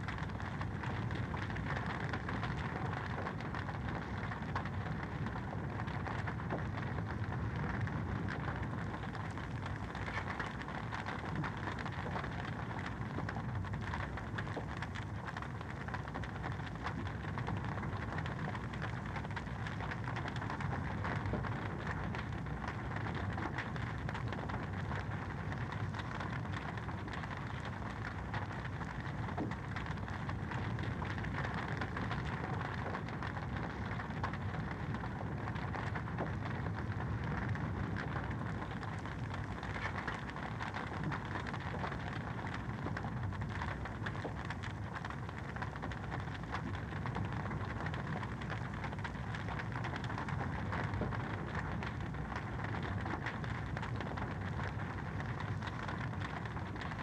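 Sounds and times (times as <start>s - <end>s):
fire crackling in a fireplace: 0.0s - 57.0s.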